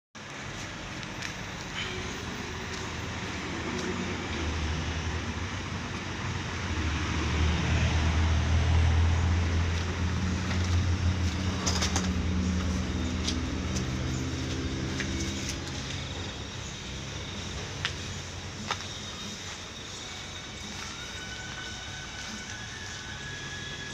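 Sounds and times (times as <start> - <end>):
diesel truck engine idling: 0.4 - 23.9.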